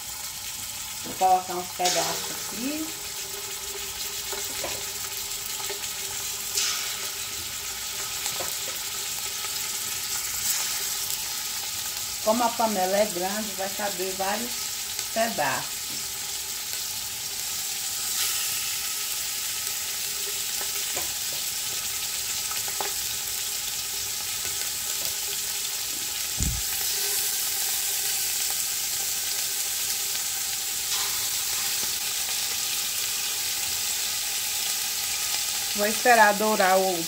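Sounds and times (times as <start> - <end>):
meat sizzling in hot oil: 0.0 - 37.0.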